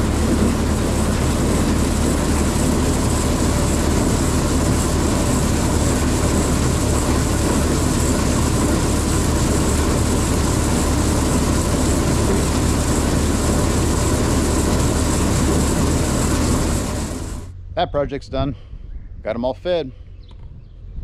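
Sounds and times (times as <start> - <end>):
machine drive humming: 0.0 - 17.8.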